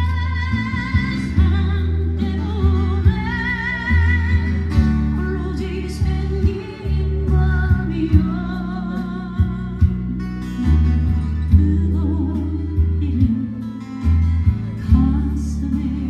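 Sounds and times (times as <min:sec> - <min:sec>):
guitar accompaniment: 0:00.0 - 0:16.0
low bass notes: 0:00.0 - 0:16.0
person singing a slow ballad: 0:00.0 - 0:16.0.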